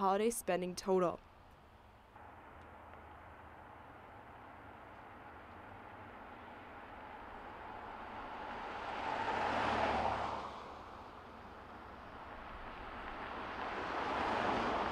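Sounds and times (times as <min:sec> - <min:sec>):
vehicle approaching: 0:02.1 - 0:14.9
car driving past: 0:02.2 - 0:14.9.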